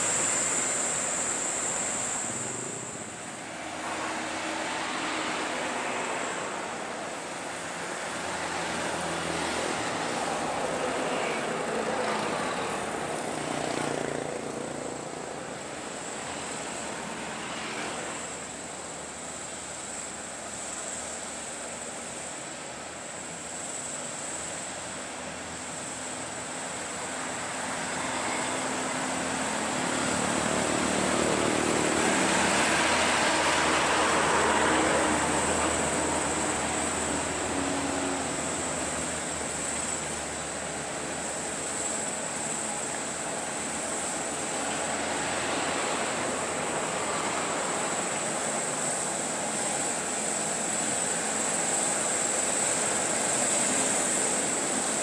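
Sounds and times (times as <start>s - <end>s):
motorcycles passing: 0.0s - 19.2s, 26.9s - 55.0s
diesel trucks climbing uphill: 0.0s - 55.0s
tyre road noise: 0.0s - 55.0s.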